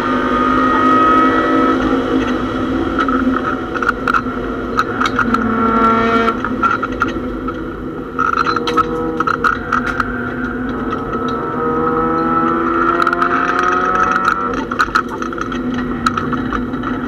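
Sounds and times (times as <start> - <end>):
race car engine running hard: 0.0 - 17.0
sharp clicks and knocks: 1.8 - 17.0.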